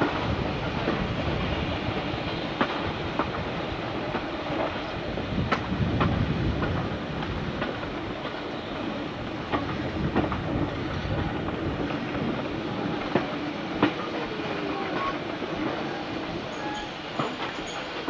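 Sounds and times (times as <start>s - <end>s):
train running rumble and hum: 0.0s - 18.0s.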